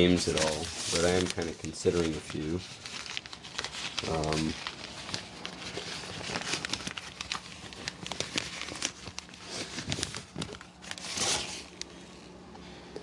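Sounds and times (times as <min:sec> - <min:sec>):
crinkling and rustling: 0:00.0 - 0:12.0.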